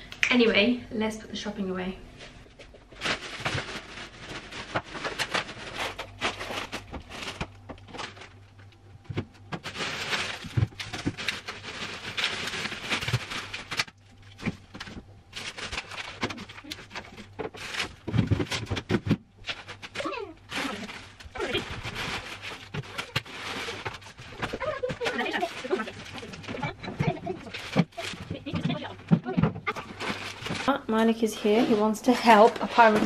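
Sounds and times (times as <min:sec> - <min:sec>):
plastic bags rustling: 0:02.1 - 0:33.0
groceries knocking and clicking: 0:02.4 - 0:33.0.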